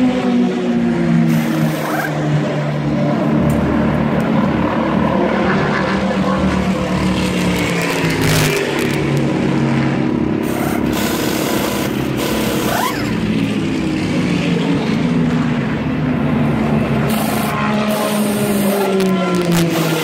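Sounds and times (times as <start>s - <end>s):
race car engines running: 0.0s - 20.0s.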